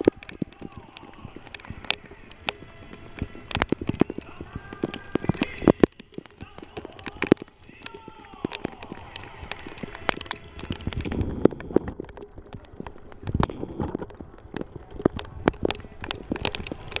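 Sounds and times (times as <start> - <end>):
scattered applause: 0.0 - 17.0.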